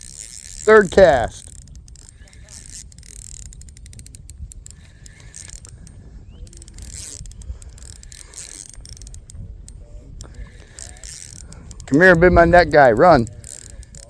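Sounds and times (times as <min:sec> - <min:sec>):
fishing reel clicking: 0:00.0 - 0:14.0.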